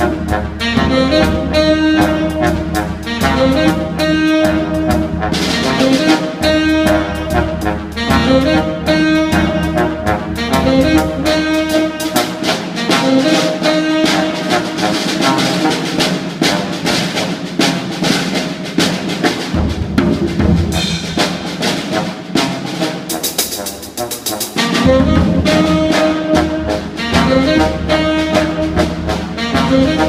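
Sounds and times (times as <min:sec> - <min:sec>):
brass instruments playing: 0:00.0 - 0:30.0
drums keeping a steady beat: 0:00.0 - 0:30.0.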